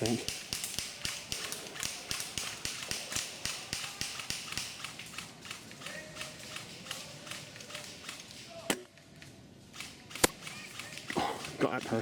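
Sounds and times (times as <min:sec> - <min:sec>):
sharp clicks: 0:00.0 - 0:08.5, 0:09.8 - 0:12.0.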